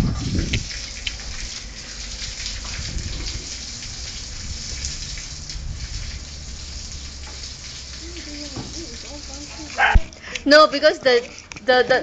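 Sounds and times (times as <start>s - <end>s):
hose spraying on concrete: 0.0s - 11.8s.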